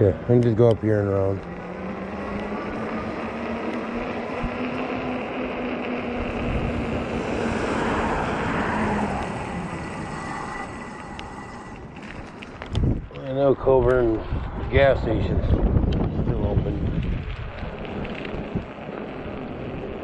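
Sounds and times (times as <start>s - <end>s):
steady low hum: 0.0s - 20.0s
tyres rolling on pavement: 0.0s - 20.0s
wind rushing over microphone: 0.0s - 20.0s.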